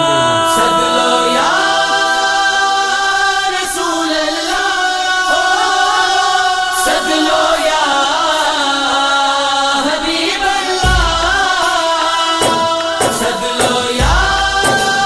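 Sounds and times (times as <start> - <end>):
solo voice singing melody: 0.0 - 15.0.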